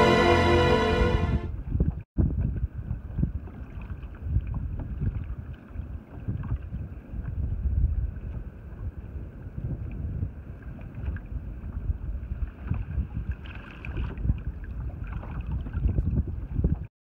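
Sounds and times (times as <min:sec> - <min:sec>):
wind buffeting microphone: 0:01.2 - 0:16.9.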